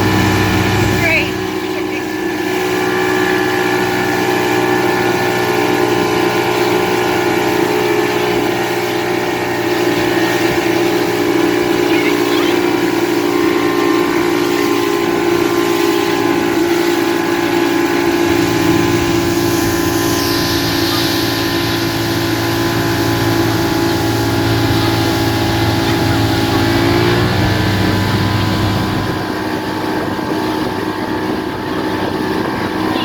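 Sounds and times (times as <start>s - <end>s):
motorboat engine hum: 0.0s - 33.0s
wind and water rush: 0.0s - 33.0s.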